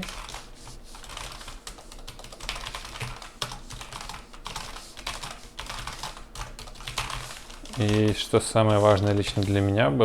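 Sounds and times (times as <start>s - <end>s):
mechanical keyboard typing: 0.0s - 8.3s, 9.1s - 9.6s.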